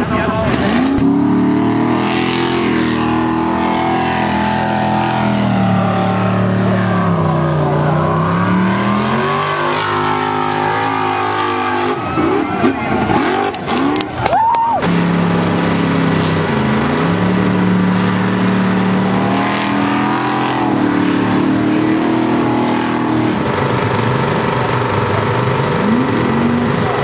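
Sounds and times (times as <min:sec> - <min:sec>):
buggy engine at full throttle: 0:00.0 - 0:27.0
engine revving: 0:00.3 - 0:14.2, 0:14.8 - 0:27.0.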